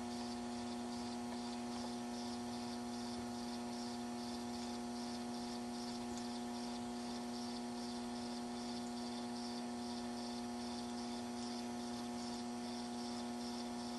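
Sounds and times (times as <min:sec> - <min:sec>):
electrical hum: 0:00.0 - 0:13.9
faint high-pitched pulsing: 0:00.0 - 0:13.9.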